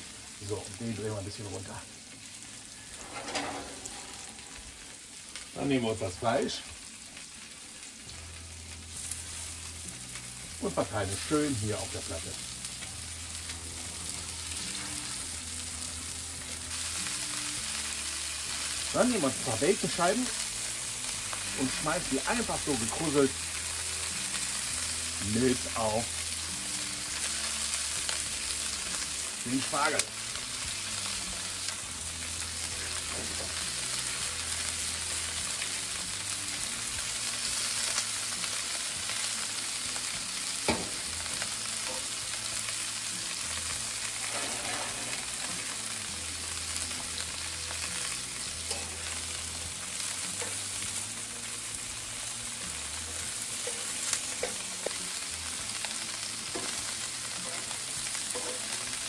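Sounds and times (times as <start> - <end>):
food sizzling on a griddle: 0.0 - 59.0.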